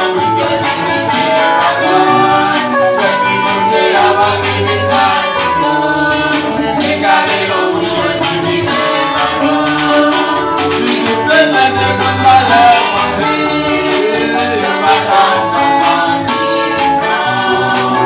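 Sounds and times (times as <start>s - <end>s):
group singing gospel in harmony: 0.0s - 18.0s.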